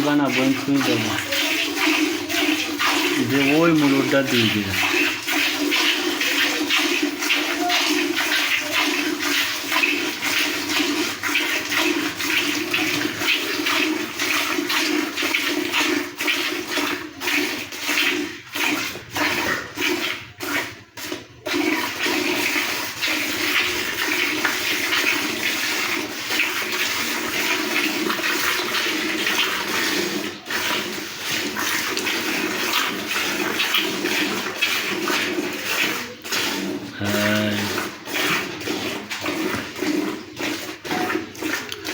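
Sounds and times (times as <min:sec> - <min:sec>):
milk streams splashing into pail: 0:00.0 - 0:41.9.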